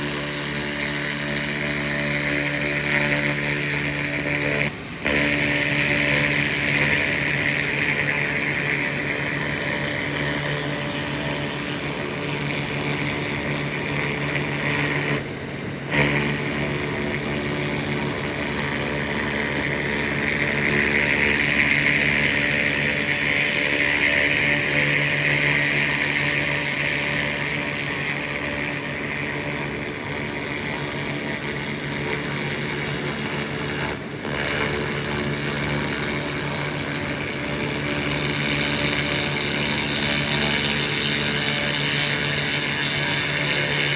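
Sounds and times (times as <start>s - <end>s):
laser rust remover hissing: 0.0s - 43.9s
machine hum: 0.0s - 43.9s.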